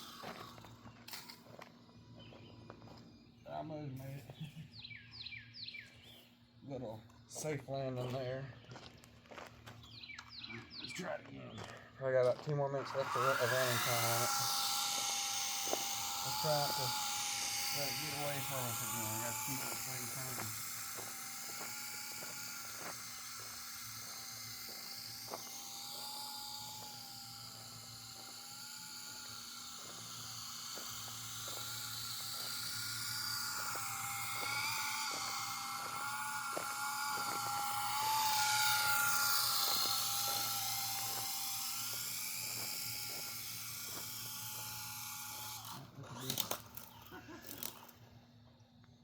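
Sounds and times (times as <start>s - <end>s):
rc helicopter rotor whine: 0.0s - 8.4s, 9.7s - 49.0s.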